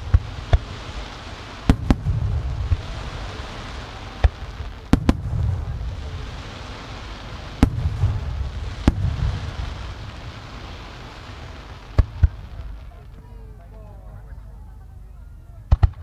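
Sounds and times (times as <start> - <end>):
firework shells booming: 0.0 - 13.3, 15.7 - 16.0
low rolling rumble: 0.0 - 15.7.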